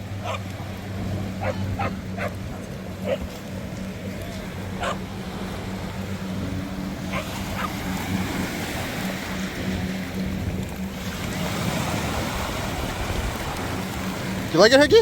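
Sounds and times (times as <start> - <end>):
wind buffeting microphone: 0.0 - 14.6
waves washing onto beach: 0.0 - 15.0.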